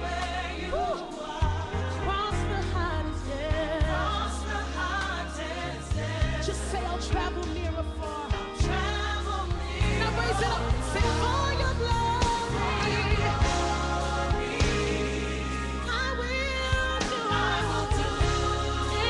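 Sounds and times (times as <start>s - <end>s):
gospel song: 0.0s - 19.0s.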